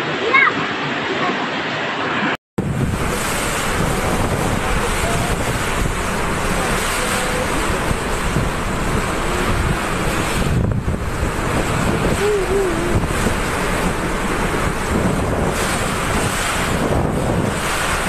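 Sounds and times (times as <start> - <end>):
strong wind and driving rain: 0.0 - 18.0.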